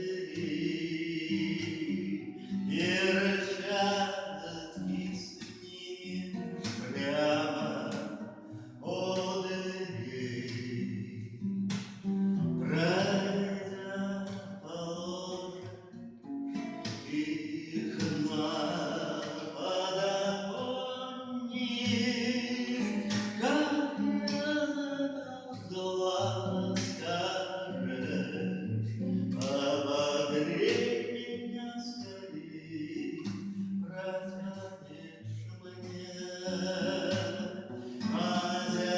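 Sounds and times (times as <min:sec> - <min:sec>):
person singing: 0:00.0 - 0:11.2, 0:12.6 - 0:15.8, 0:16.5 - 0:38.9
guitar accompaniment: 0:00.0 - 0:38.9.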